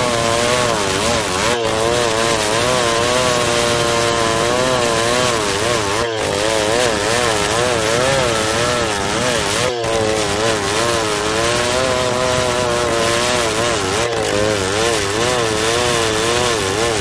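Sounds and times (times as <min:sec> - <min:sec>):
chainsaw ripping wood: 0:00.0 - 0:17.0.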